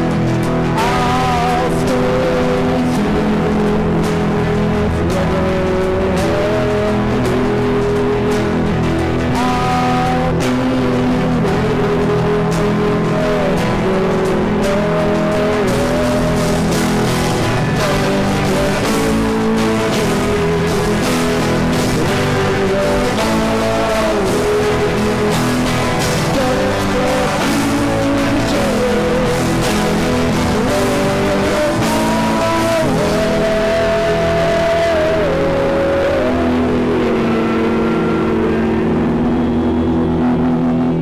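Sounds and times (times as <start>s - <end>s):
bass guitar: 0.0s - 41.0s
bending guitar lead line: 0.0s - 41.0s
drum kit: 0.0s - 41.0s
electric guitars: 0.0s - 41.0s.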